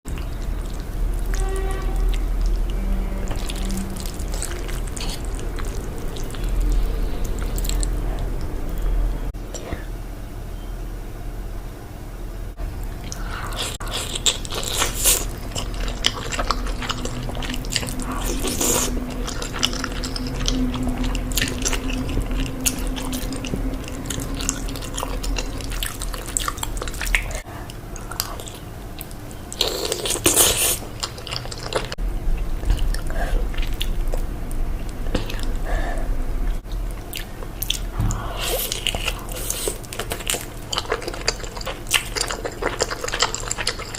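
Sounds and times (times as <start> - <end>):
close-miked chewing: 0.1 - 9.8, 12.8 - 35.6, 36.6 - 43.9.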